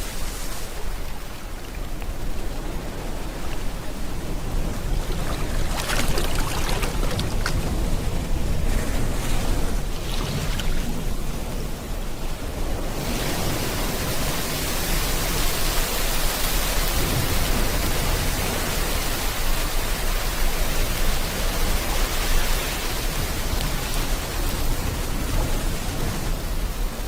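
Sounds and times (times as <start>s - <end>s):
heavy rain hissing: 0.0s - 27.0s
ocean surf washing: 0.0s - 27.0s.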